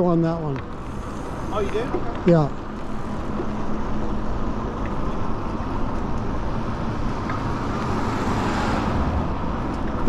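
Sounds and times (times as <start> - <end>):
tyre noise on asphalt: 0.0 - 10.0.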